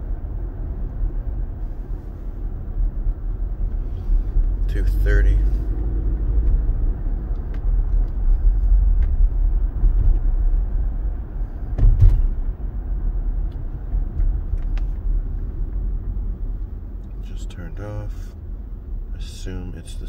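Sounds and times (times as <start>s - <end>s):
car road rumble: 0.0s - 20.0s.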